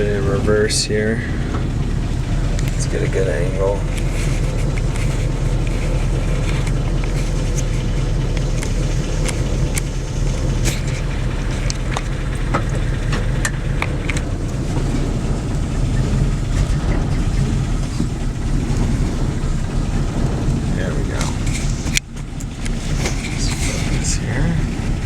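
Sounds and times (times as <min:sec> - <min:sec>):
pickup engine idling: 0:00.0 - 0:25.0
sharp clicks and ticks: 0:01.5 - 0:25.0.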